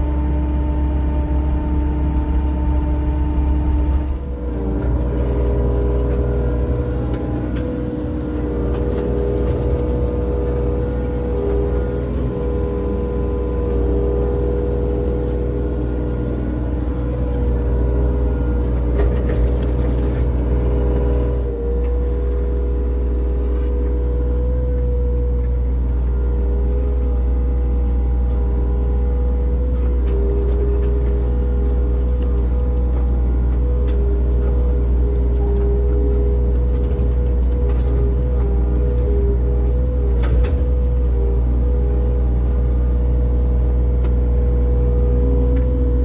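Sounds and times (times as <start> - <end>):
heavy machine engine droning: 0.0 - 46.0.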